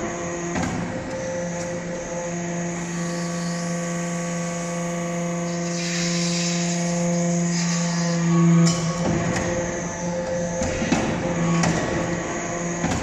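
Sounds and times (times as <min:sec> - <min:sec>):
hydraulic press humming whine: 0:00.0 - 0:13.0.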